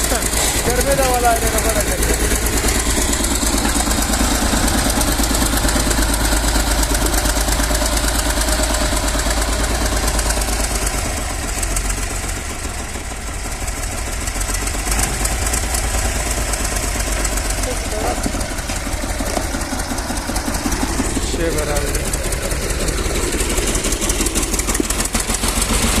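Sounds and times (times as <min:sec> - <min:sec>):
diesel tractor engine clattering: 0:00.0 - 0:26.0.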